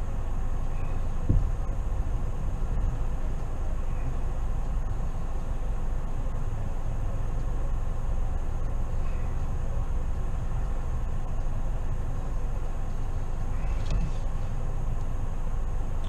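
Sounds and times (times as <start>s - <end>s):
car driving on snowy road: 0.0s - 16.0s.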